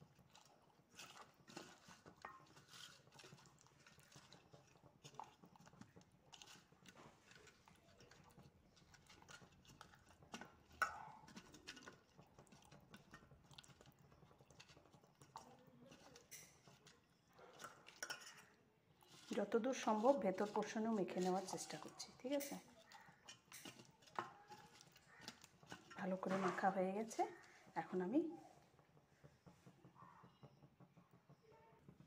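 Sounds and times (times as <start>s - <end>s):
hands squelching marinade into chicken: 0.0s - 27.8s.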